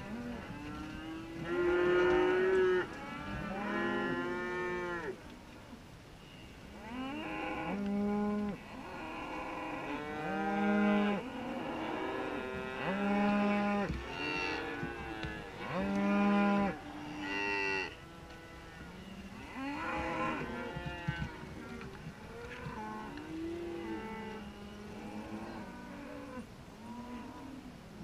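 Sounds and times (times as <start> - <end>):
cattle mooing: 0.0 - 5.2, 6.8 - 27.5.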